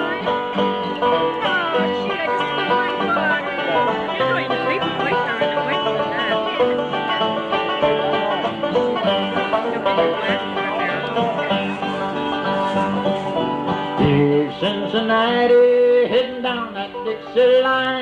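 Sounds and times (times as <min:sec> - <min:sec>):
bluegrass band playing: 0:00.0 - 0:18.0
fast banjo lead: 0:00.0 - 0:18.0.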